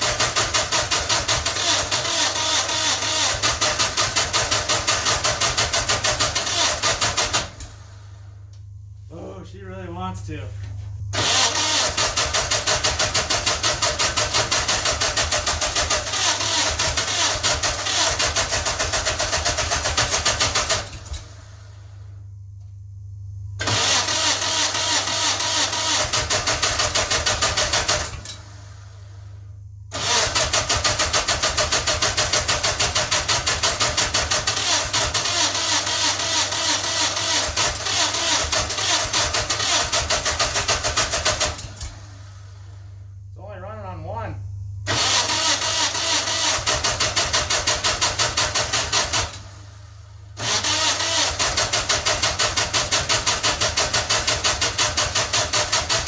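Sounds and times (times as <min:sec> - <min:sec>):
engine cranking rhythmic chugging: 0:00.0 - 0:08.3, 0:09.5 - 0:21.9, 0:23.6 - 0:29.2, 0:29.8 - 0:42.8, 0:44.8 - 0:56.0.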